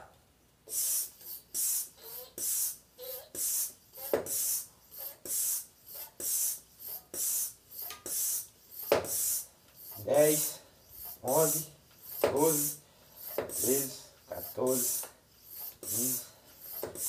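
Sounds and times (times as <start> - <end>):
hand pump hissing air: 0.7 - 17.0.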